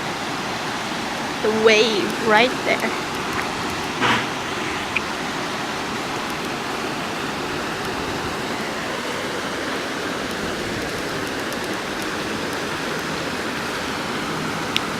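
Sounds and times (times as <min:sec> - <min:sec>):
floodwater rushing over street: 0:00.0 - 0:14.9.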